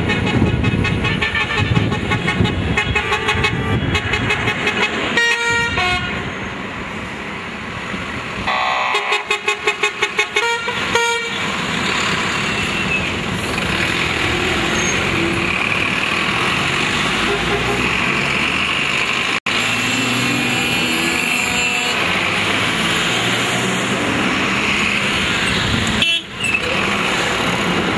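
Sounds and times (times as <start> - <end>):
diesel engine: 0.0 - 27.9
road noise: 0.0 - 27.9
trucks driving by: 0.0 - 27.9.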